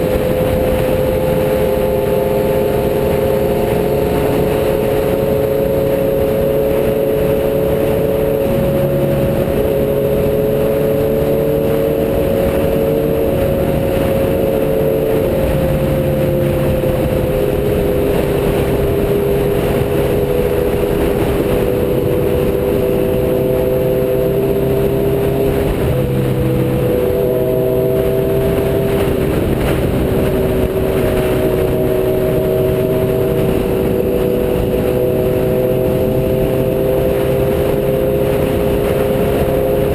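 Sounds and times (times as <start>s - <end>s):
motorcycle engines cruising: 0.0s - 39.9s.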